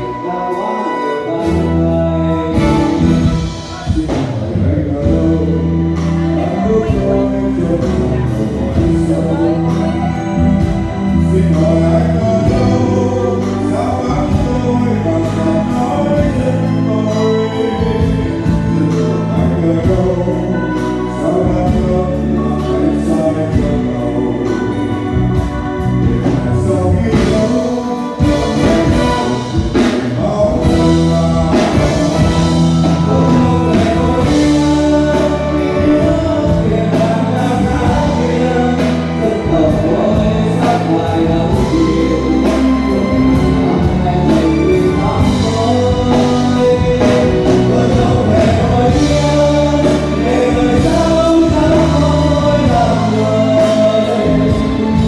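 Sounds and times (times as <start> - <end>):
live band playing slow ballad: 0.0 - 55.0
men singing through pa: 0.0 - 55.0.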